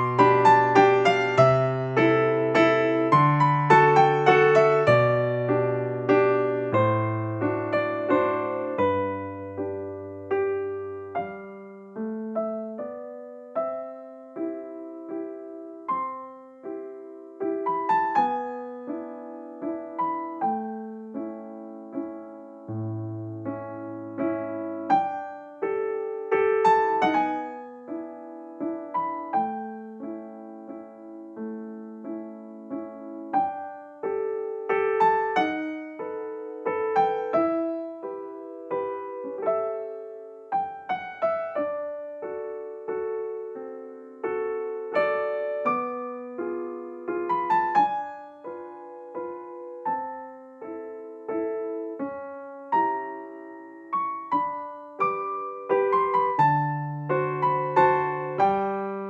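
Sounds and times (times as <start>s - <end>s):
gentle piano music: 0.0s - 59.0s.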